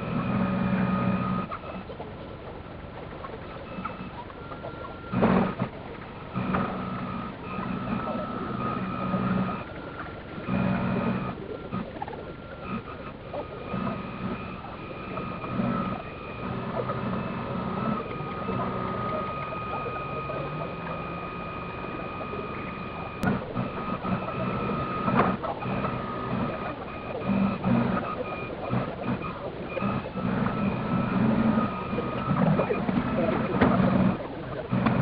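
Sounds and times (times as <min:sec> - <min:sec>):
choppy fluttering whirr: 0:00.0 - 0:35.0
electric motor whine: 0:00.0 - 0:35.0.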